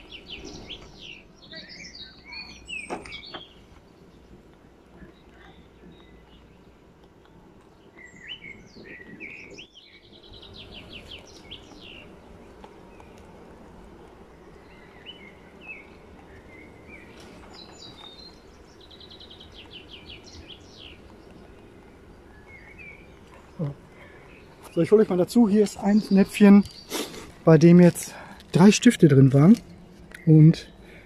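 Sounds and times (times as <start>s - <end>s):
songbird chirps and trills: 0.0s - 31.0s.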